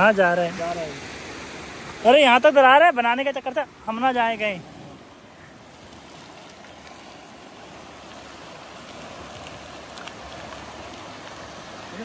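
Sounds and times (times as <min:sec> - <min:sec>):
river rushing in flood: 0:00.0 - 0:12.0.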